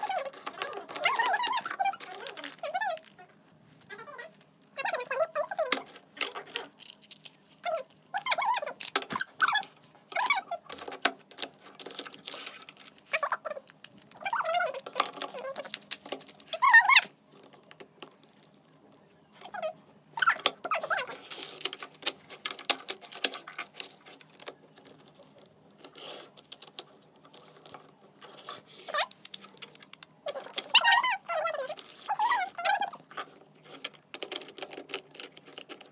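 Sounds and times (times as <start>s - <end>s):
plastic toy parts clicking: 0.0s - 3.2s, 4.2s - 18.6s, 19.4s - 35.9s.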